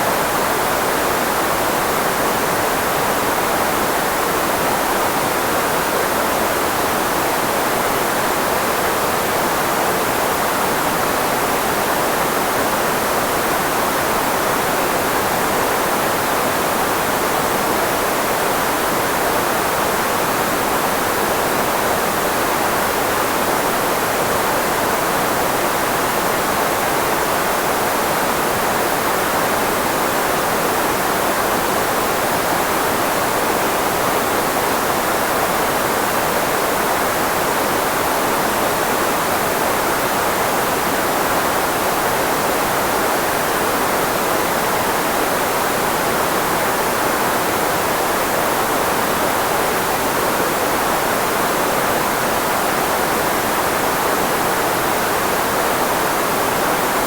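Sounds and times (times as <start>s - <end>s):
filtered white noise hiss: 0.0s - 57.0s.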